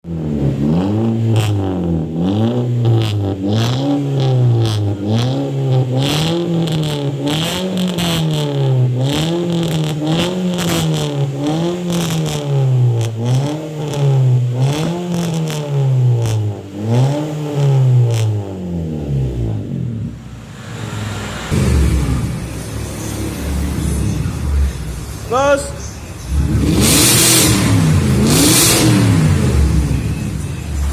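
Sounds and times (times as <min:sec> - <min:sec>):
engine revving: 0:00.0 - 0:25.3, 0:26.0 - 0:30.9.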